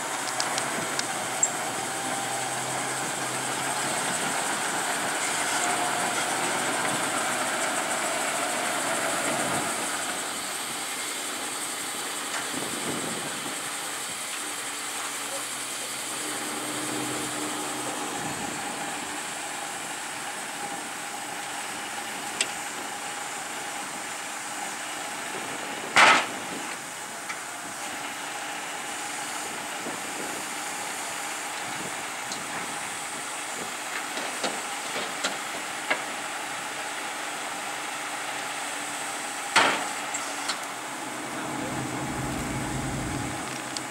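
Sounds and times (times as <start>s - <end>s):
engine hum: 0.0s - 43.9s.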